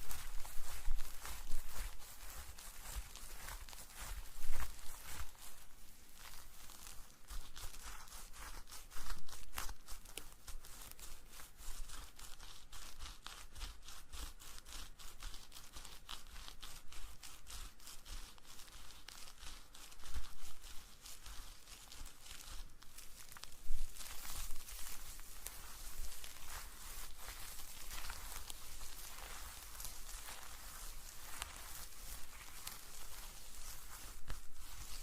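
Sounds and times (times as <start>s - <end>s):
crackly scratching and rustling: 0.0s - 35.0s.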